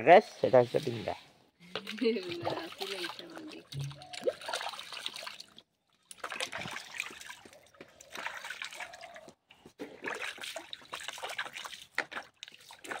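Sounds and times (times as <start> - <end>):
water splashing and trickling: 0.4 - 13.0.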